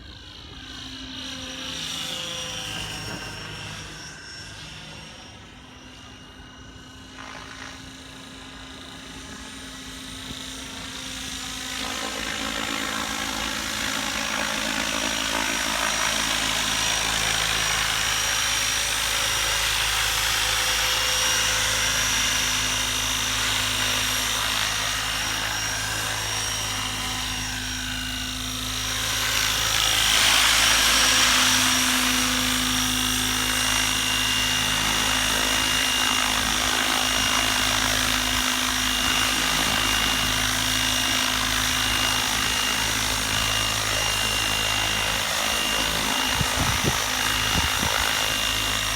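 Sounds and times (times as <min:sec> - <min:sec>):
model helicopter whining: 0:00.0 - 0:48.9.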